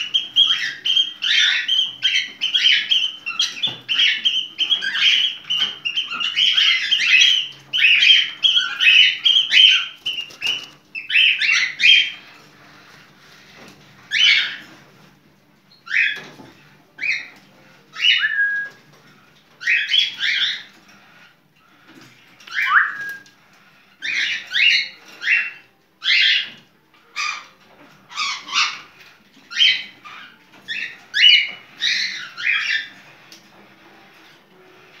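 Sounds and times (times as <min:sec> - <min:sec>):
cockatiel chirps and squawks: 0:00.0 - 0:12.4, 0:13.4 - 0:14.8, 0:15.8 - 0:16.3, 0:17.0 - 0:18.8, 0:19.6 - 0:21.3, 0:22.4 - 0:23.4, 0:24.0 - 0:33.3.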